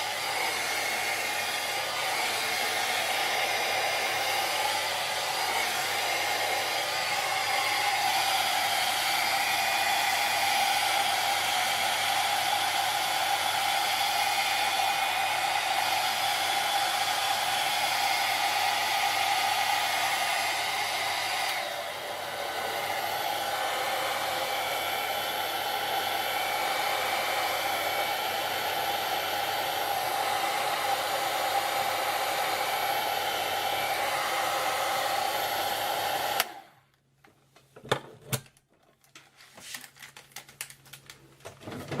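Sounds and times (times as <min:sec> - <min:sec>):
hot air styling brush running: 0:00.0 - 0:36.7.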